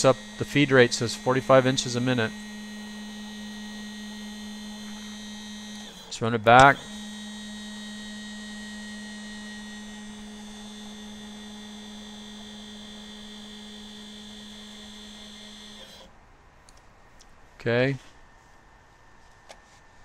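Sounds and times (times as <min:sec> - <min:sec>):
stepper motor whine: 0:00.0 - 0:16.1.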